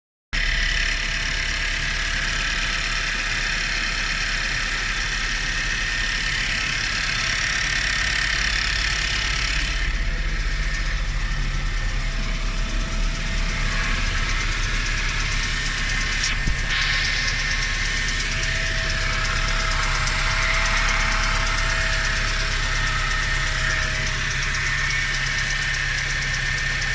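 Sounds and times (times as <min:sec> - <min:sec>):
car engine running: 0:00.4 - 0:26.9.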